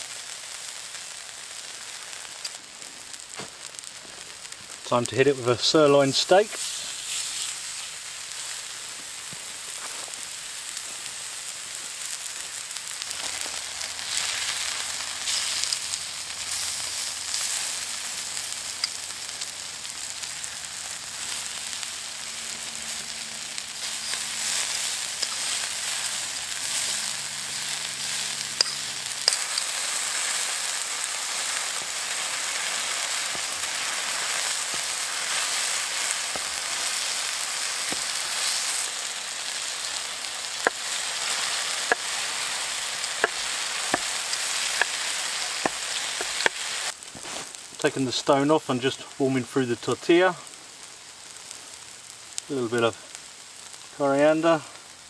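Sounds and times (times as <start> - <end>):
meat sizzling on hot stone: 0.0 - 55.0.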